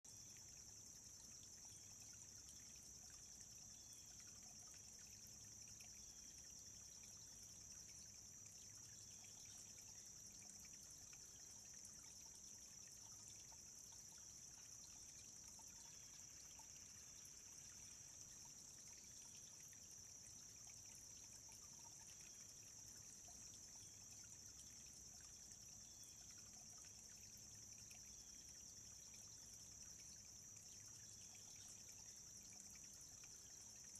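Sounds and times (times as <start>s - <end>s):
stream trickling: 0.0s - 33.9s.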